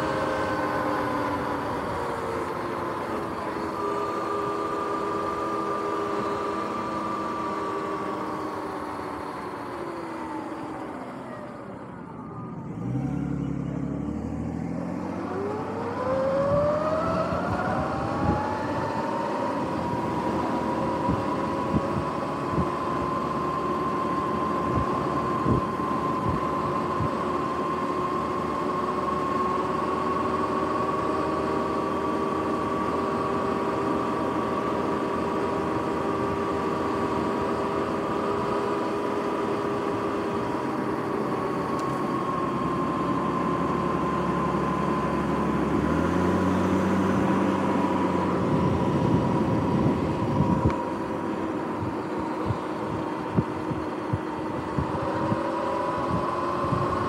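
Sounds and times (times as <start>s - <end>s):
electric motor whine: 0.0s - 57.0s.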